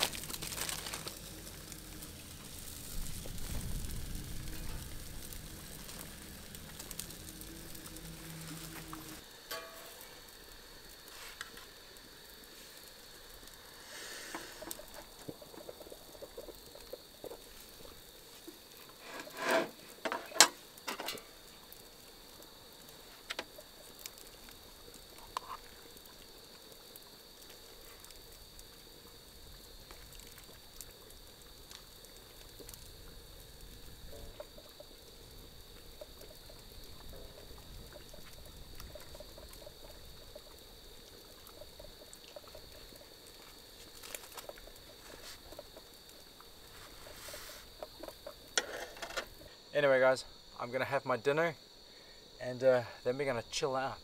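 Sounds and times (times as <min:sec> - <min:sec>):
isolated ticks: 0:00.0 - 0:49.6
insects droning: 0:00.0 - 0:54.0.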